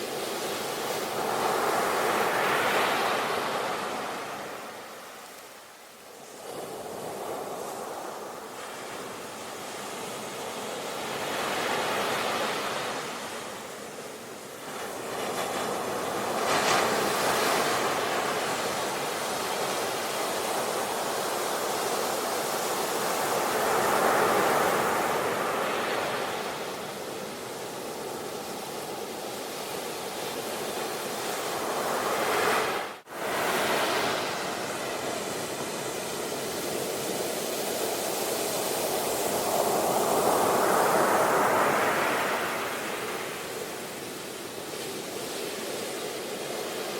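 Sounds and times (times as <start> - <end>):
sea waves breaking ashore: 0.0 - 5.6, 6.2 - 46.9.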